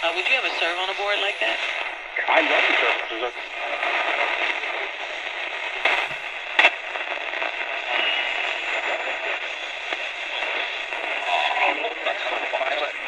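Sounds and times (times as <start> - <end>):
radio static: 0.0 - 13.0
sharp radio crackles: 0.0 - 13.0.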